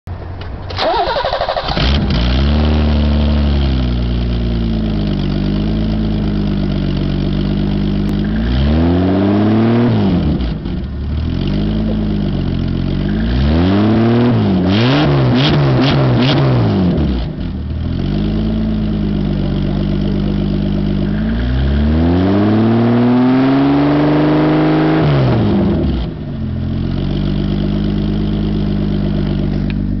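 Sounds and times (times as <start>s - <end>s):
car engine starting and revving: 0.4s - 30.0s.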